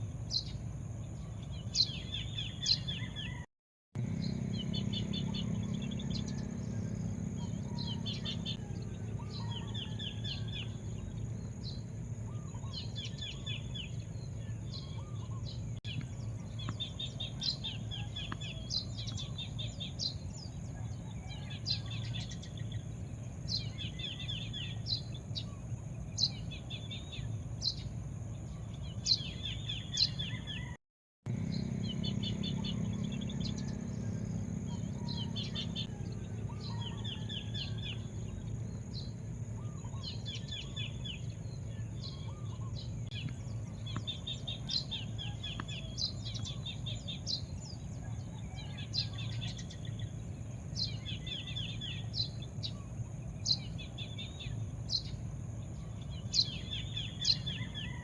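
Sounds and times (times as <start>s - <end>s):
birds singing: 0.2s - 58.0s
low background rumble: 4.0s - 30.6s, 31.3s - 58.0s.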